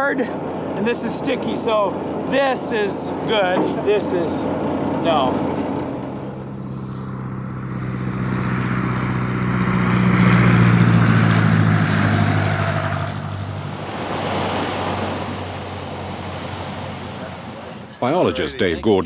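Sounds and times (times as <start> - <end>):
propeller plane engine droning: 0.0 - 18.8.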